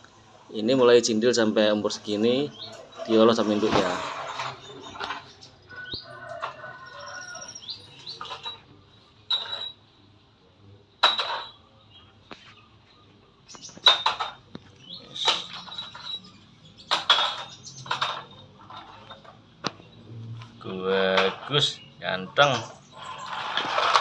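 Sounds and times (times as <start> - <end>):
small birds chirping: 1.0 - 9.1, 11.6 - 23.6.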